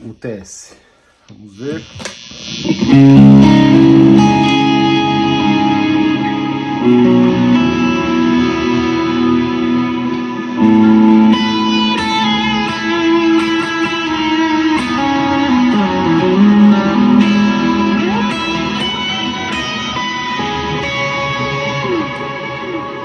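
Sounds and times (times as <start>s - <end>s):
electric guitar with reverb: 1.3s - 23.0s.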